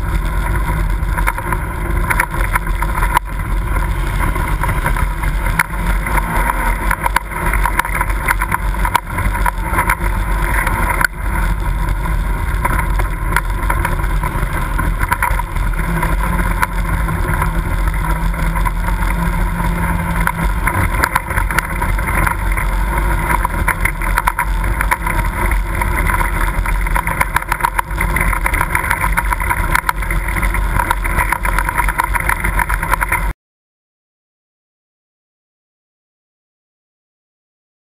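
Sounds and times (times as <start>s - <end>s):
vehicle body rattling and knocking: 0.0s - 33.3s
vehicle engine running: 0.0s - 33.4s.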